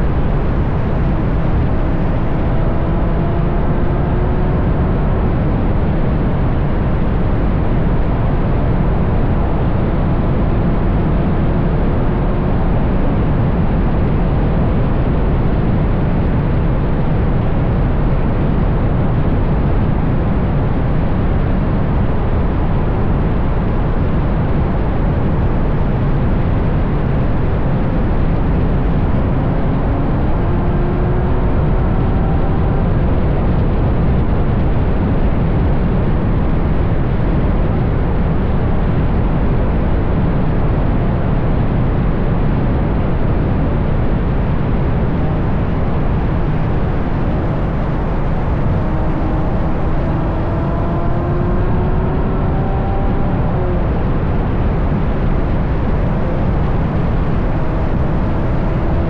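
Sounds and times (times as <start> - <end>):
faint car engine: 0.0 - 59.0
road noise: 0.0 - 59.0
wind rush: 0.0 - 59.0.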